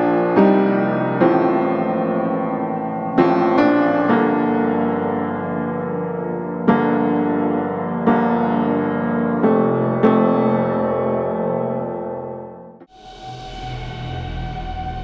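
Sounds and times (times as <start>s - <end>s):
soft piano chords: 0.0s - 12.9s.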